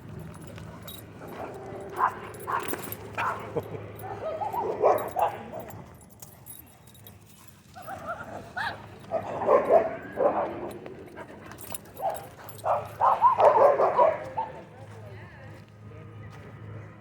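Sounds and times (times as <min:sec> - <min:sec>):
dogs barking and yipping: 0:00.0 - 0:14.7.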